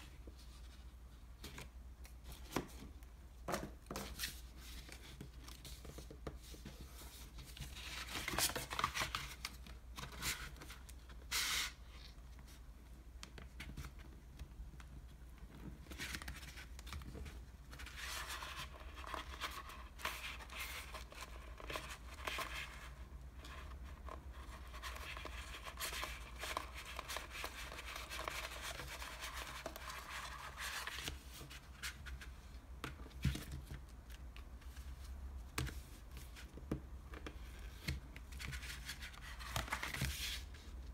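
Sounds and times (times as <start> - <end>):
paperboard rustling and crinkling: 0.0 - 12.6, 13.3 - 40.9.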